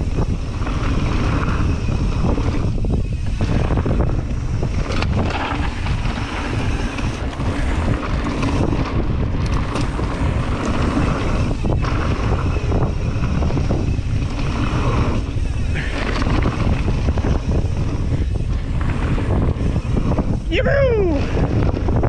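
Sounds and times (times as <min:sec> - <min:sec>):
tyres rumbling on dirt: 0:00.0 - 0:22.0
wind rushing over microphone: 0:00.0 - 0:22.0.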